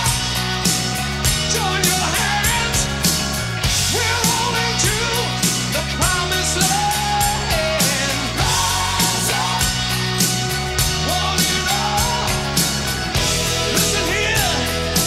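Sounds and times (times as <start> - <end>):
hard rock song: 0.0 - 15.0
lead vocal singing: 1.3 - 15.0.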